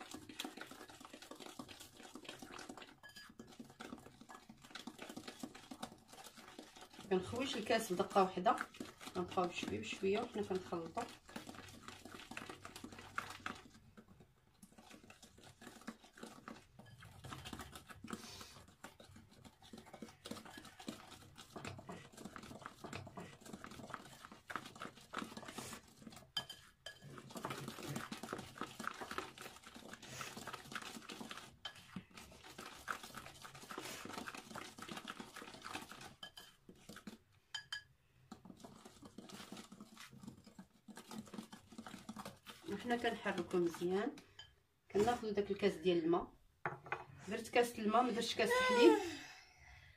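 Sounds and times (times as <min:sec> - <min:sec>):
batter beaten by hand in bowl: 0:00.0 - 0:45.9.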